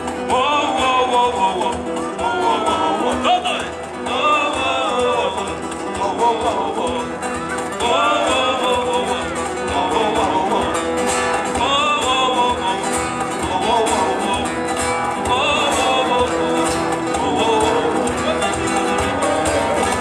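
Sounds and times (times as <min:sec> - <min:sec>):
acoustic guitars: 0:00.0 - 0:20.0
bass guitar: 0:00.0 - 0:20.0
man singing into a microphone: 0:00.0 - 0:20.0.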